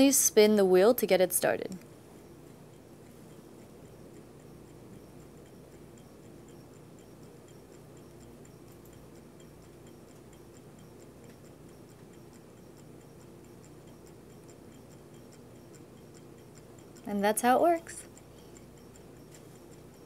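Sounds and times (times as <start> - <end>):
stirling engine ticking: 2.2 - 20.0.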